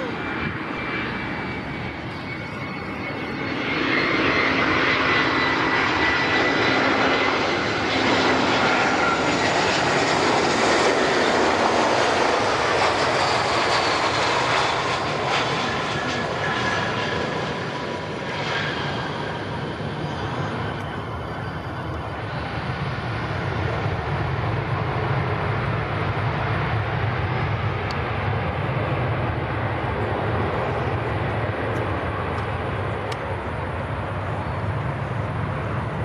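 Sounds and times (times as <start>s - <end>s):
jet engine rumbling: 0.0s - 36.0s.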